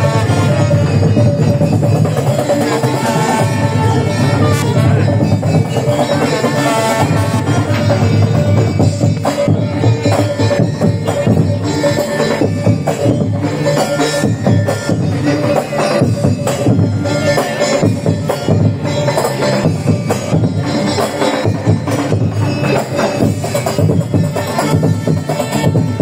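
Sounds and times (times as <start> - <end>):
loud music with busy percussion: 0.0 - 26.0.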